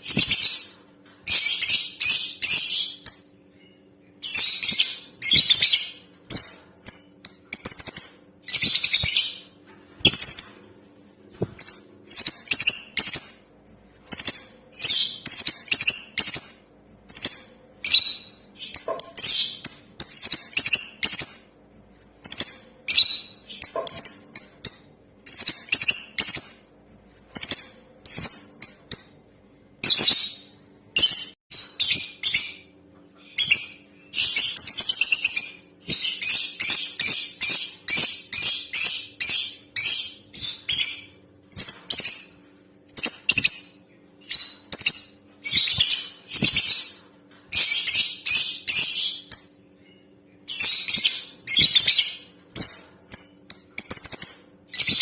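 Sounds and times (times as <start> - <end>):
lovebird chirping: 0.0 - 10.8, 11.4 - 21.6, 29.8 - 55.0.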